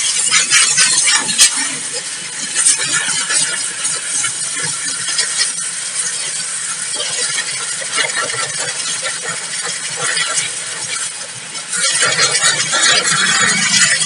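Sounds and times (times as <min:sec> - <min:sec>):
crackling water splashes: 0:00.0 - 0:14.0
hose water jet hissing: 0:00.0 - 0:14.0.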